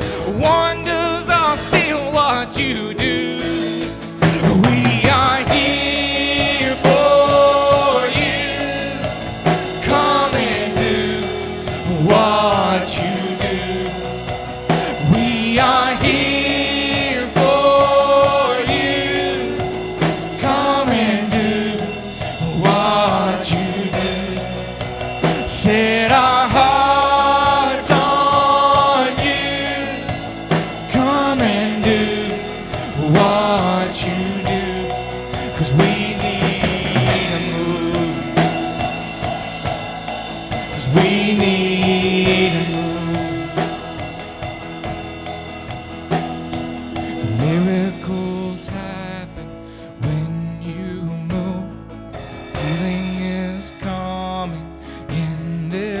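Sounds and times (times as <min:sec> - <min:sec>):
voices singing: 0:00.0 - 0:46.2, 0:46.9 - 0:49.4
acoustic guitar: 0:00.0 - 0:56.0
bass guitar: 0:00.0 - 0:56.0
drum kit: 0:00.0 - 0:56.0.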